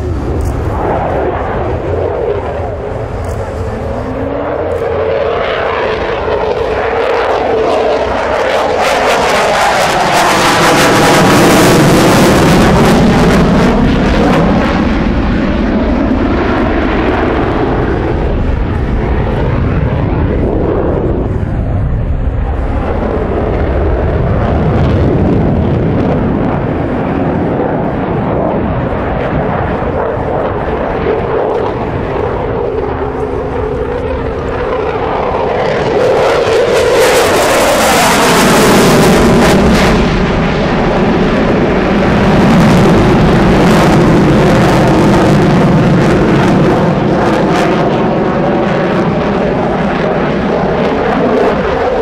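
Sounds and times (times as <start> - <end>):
jet engine roar: 0.0 - 52.0.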